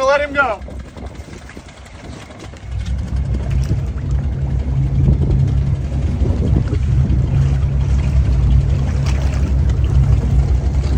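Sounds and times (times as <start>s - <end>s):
boat engine low rumble: 0.0s - 10.9s.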